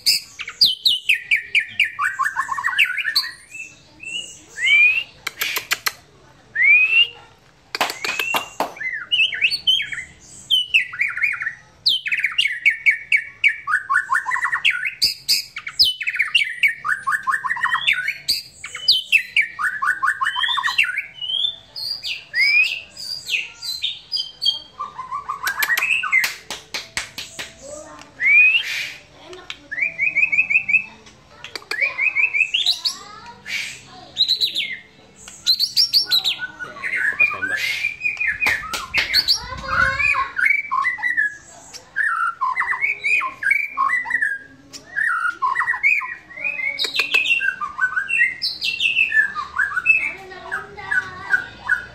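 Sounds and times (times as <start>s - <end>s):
bird singing trills and whistles: 0.0s - 7.2s, 7.8s - 51.9s.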